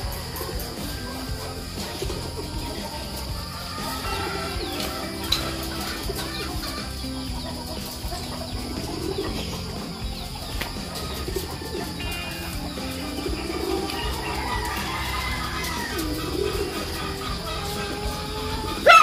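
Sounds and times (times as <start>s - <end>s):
doves cooing: 0.0s - 19.0s
soft background music: 0.0s - 19.0s.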